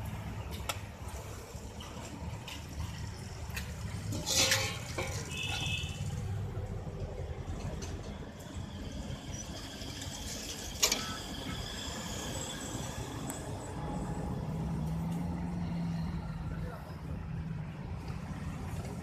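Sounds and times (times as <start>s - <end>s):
street background rumble: 0.0s - 19.0s.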